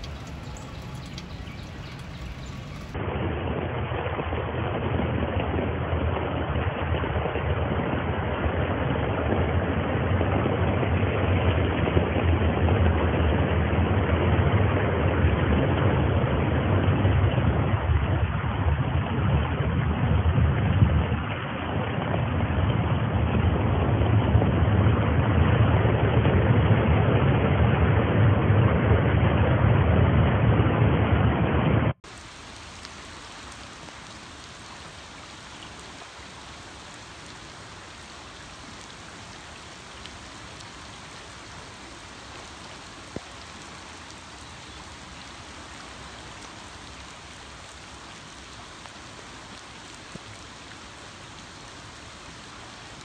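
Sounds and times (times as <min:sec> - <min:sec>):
floodwater rushing: 0:00.0 - 0:27.0, 0:32.0 - 0:53.0.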